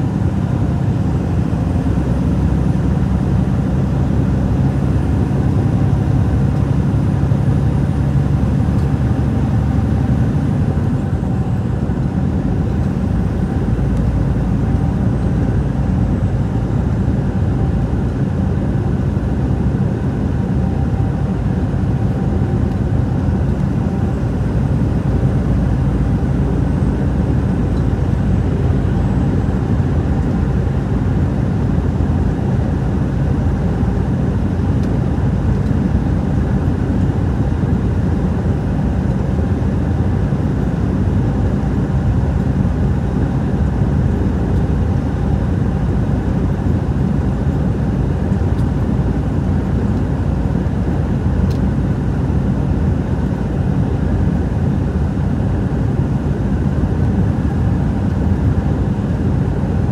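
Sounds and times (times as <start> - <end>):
vehicle engine hum: 0.0 - 59.9.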